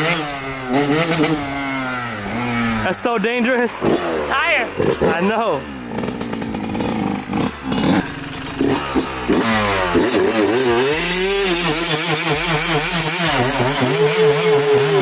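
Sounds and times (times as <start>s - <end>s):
two-stroke engine revving hard: 0.0s - 15.0s.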